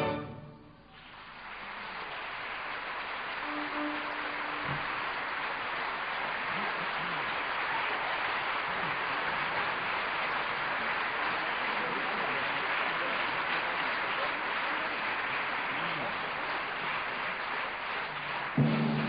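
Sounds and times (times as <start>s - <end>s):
audience applauding: 0.9s - 19.0s.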